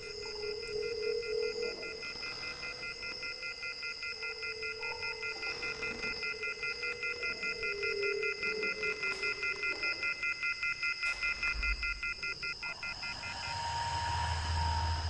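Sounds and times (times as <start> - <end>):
rapid electronic beeping: 0.0 - 15.0
steady high-pitched tone: 0.0 - 15.0.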